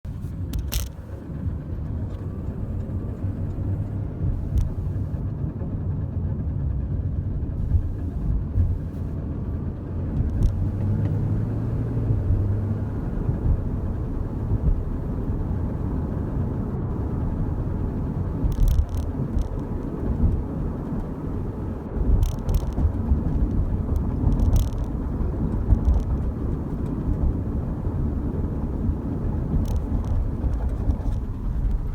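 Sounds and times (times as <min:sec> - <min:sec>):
car engine low rumble: 0:00.0 - 0:31.9.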